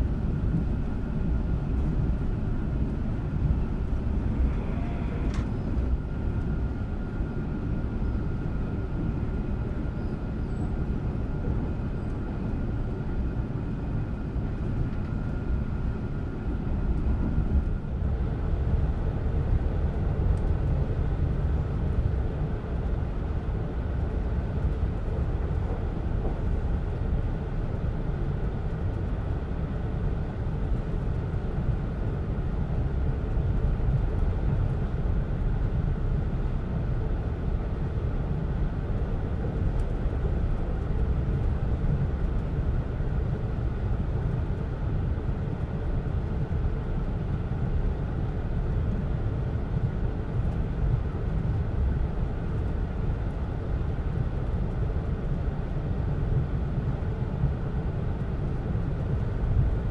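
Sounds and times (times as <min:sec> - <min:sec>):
train wheels rumbling on rails: 0:00.0 - 0:59.8.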